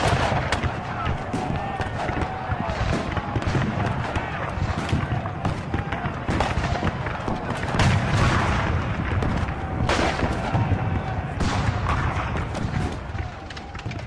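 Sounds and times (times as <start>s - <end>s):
explosion blasts: 0.0s - 14.0s
gunfire: 0.0s - 14.0s.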